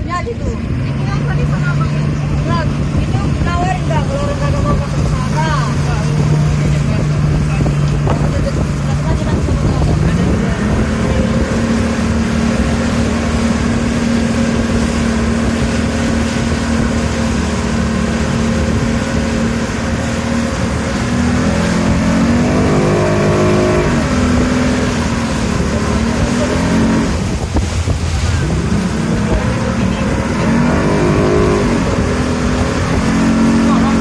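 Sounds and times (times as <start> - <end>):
motorboat engine revving: 0.0 - 34.0.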